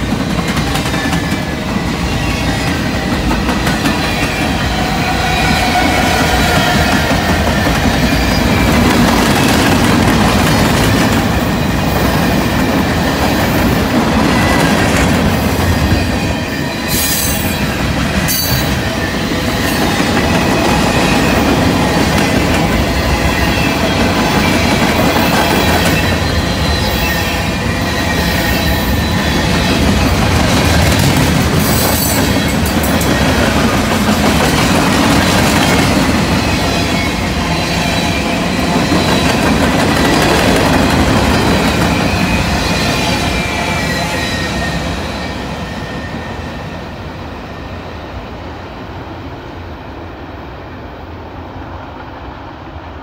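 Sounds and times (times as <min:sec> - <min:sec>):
train wheels rumbling on rails: 0:00.0 - 0:49.5.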